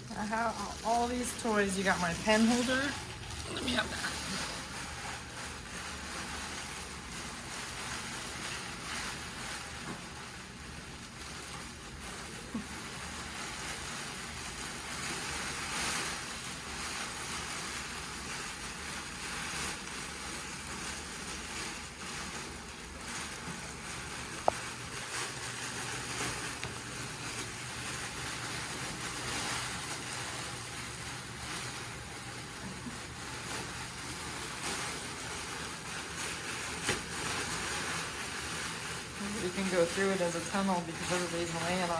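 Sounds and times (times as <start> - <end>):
puppies rustling fabric tunnel: 0.0 - 41.9.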